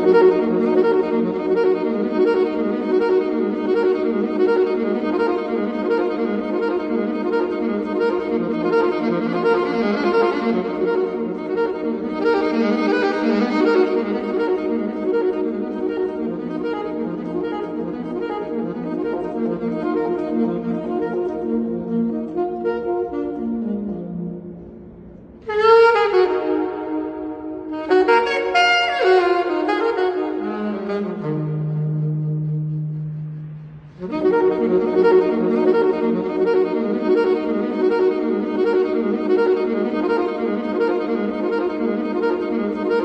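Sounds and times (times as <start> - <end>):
wind instrument long notes: 0.0 - 43.0.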